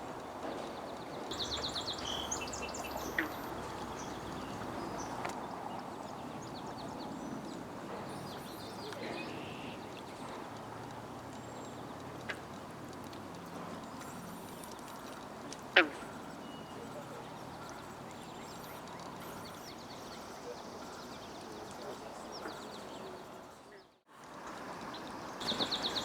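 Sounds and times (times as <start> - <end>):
outdoor background noise: 0.0 - 26.0
songbirds chirping: 0.0 - 26.0.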